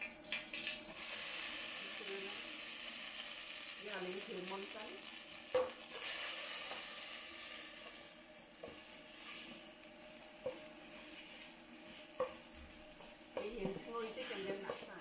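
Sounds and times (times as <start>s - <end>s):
herb paste sizzling in oil: 0.0s - 15.0s.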